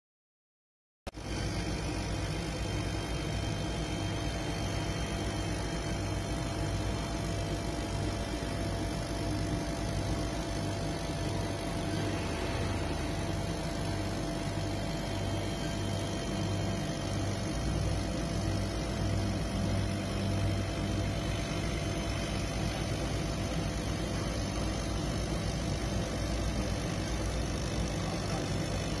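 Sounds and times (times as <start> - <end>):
laser cutter hum and whir: 1.1 - 29.0.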